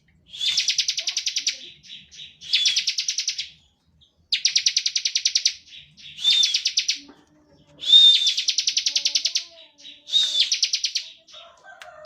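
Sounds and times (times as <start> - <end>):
bird singing buzzy trills: 0.2 - 11.4.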